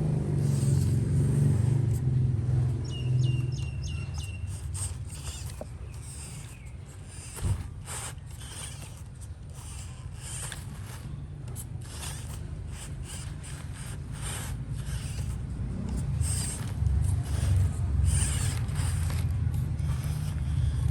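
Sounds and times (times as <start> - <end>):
low steady rumble: 0.0 - 20.9
toy truck scraping and crunching: 0.0 - 20.9.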